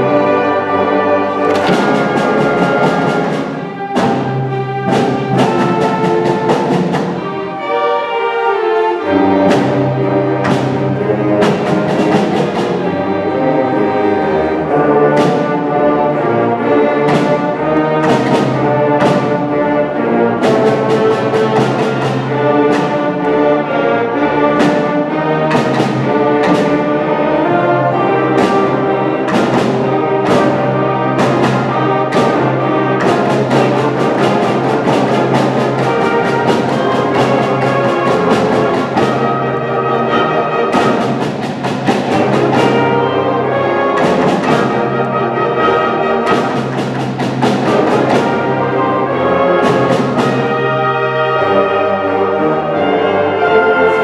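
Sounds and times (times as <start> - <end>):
brass and woodwind chords: 0.0 - 46.8
percussion strokes: 0.0 - 51.9.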